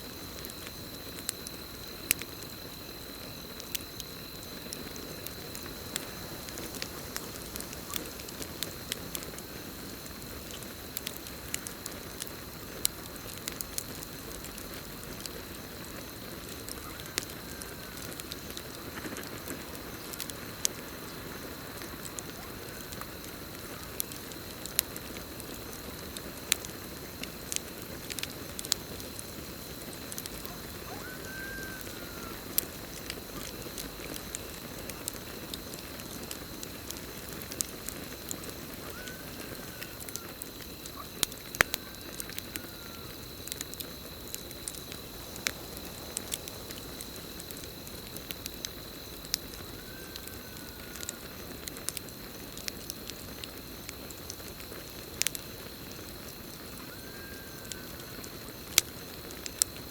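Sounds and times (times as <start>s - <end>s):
campfire crackling and popping: 0.0s - 59.9s
crickets droning: 0.0s - 59.9s.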